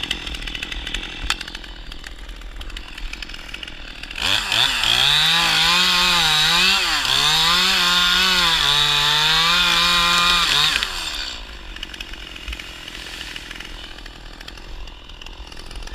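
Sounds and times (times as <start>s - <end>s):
chainsaw running: 0.0s - 15.9s.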